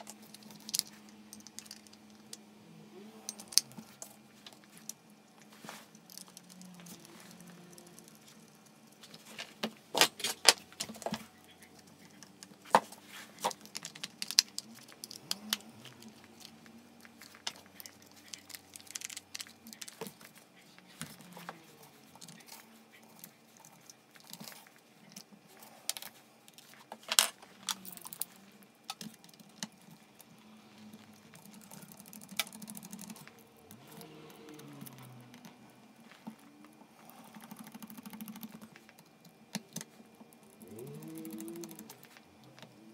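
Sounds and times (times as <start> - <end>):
plastic parts clicking and rattling: 0.0 - 2.5, 3.2 - 42.8.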